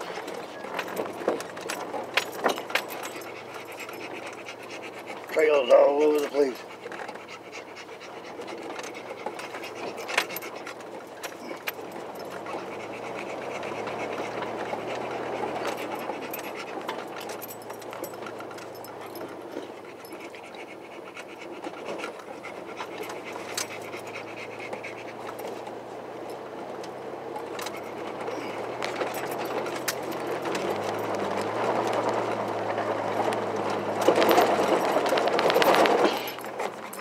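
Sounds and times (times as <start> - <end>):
low engine running: 0.0 - 37.0
sharp clicks and rattles: 0.0 - 37.0
tyres on dirt: 0.0 - 37.0.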